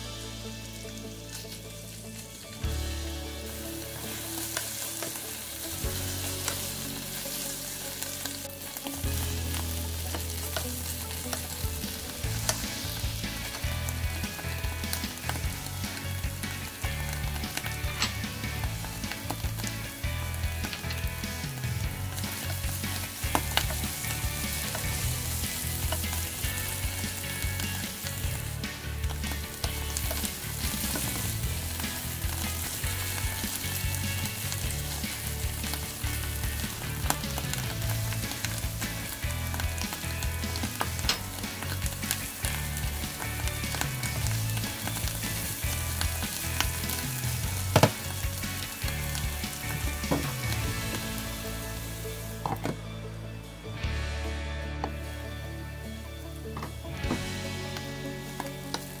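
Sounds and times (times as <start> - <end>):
mushrooms sizzling in a pan: 0.0 - 59.0.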